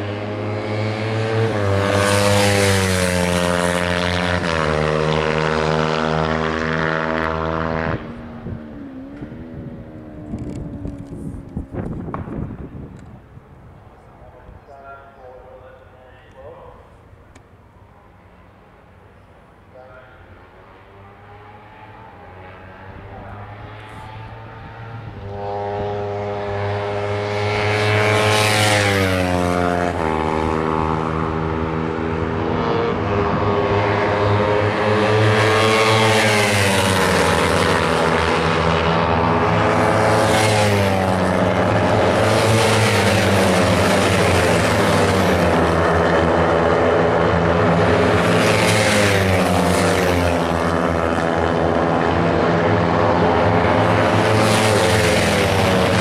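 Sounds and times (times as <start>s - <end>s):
race motorcycles passing at high revs: 0.0s - 56.0s.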